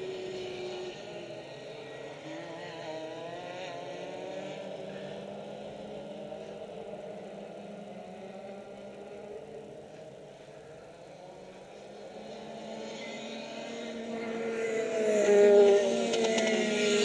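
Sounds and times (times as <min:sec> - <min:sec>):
distant racing kart engines: 0:00.0 - 0:17.0.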